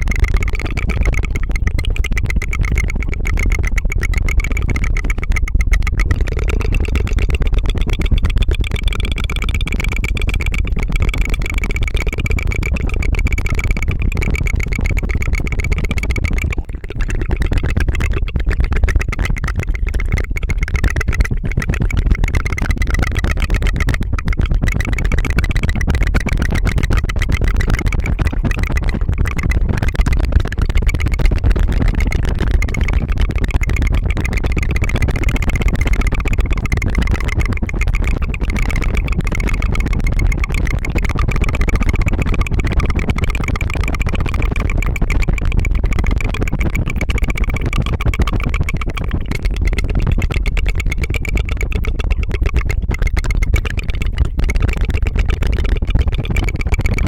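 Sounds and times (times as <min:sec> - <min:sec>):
rapid tongue fluttering: 0:00.0 - 0:57.0.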